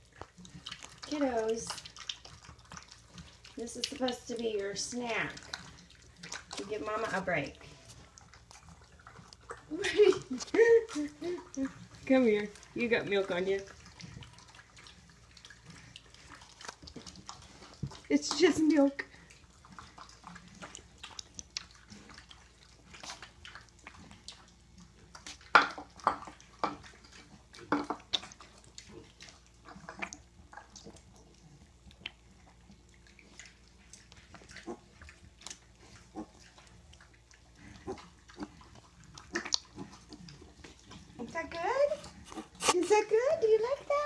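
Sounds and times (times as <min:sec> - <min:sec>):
piglet lapping and slurping: 0:00.0 - 0:44.0.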